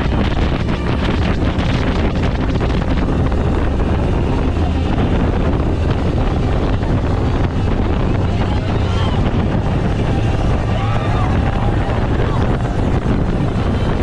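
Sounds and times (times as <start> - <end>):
rushing water: 0.0 - 14.0
speedboat engine: 0.0 - 14.0
wind buffeting microphone: 0.0 - 14.0.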